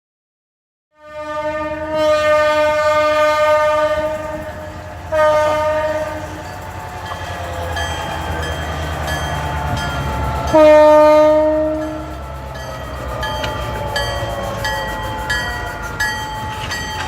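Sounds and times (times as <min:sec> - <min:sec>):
locomotive air horn blasts: 0:01.0 - 0:16.7
low rumble of train: 0:01.0 - 0:17.0.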